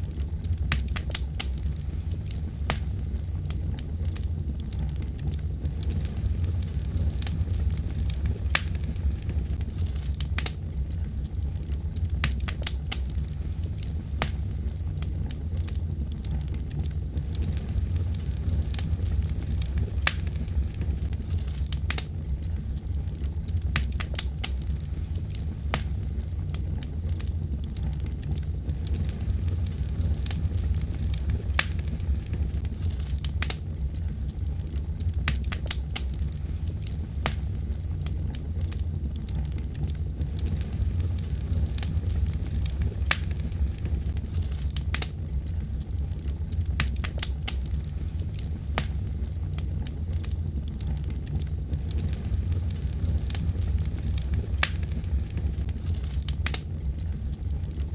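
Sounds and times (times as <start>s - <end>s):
fire crackling and popping: 0.0s - 57.9s
rumble of flames: 0.0s - 57.9s.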